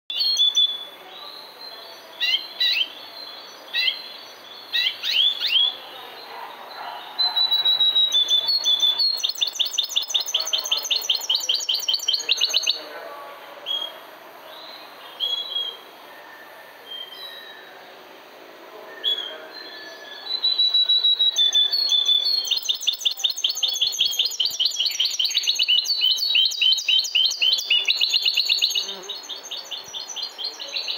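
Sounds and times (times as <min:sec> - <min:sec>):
songbird chirping and trilling: 0:00.1 - 0:30.9.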